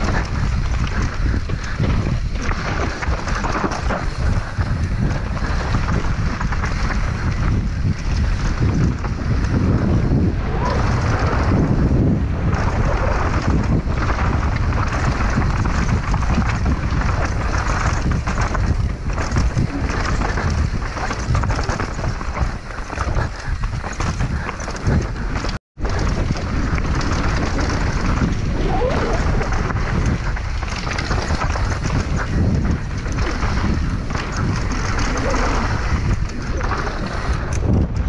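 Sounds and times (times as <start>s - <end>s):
bike tyres and frame rattling: 0.0s - 38.0s
wind buffeting microphone: 0.0s - 38.0s.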